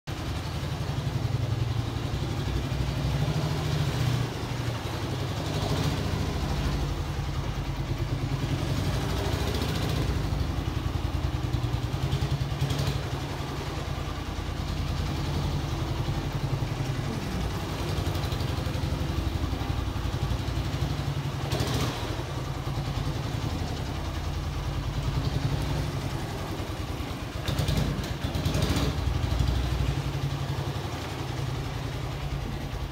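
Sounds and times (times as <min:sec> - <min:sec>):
motorcycle engine chugging: 0:00.1 - 0:32.9.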